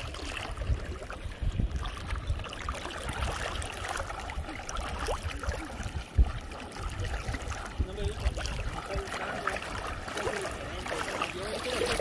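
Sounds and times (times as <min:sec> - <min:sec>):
low rumble on microphone: 0:00.0 - 0:12.0
water sloshing and trickling: 0:00.0 - 0:12.0.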